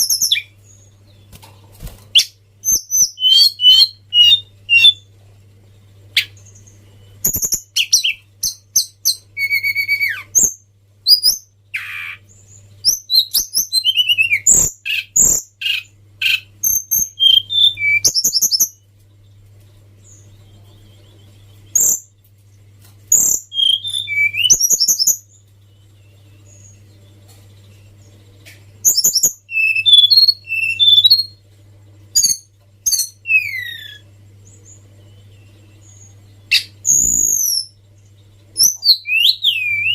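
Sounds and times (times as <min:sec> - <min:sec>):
low steady hum: 0:00.0 - 0:39.9
songbird chirping and trilling: 0:00.0 - 0:39.9.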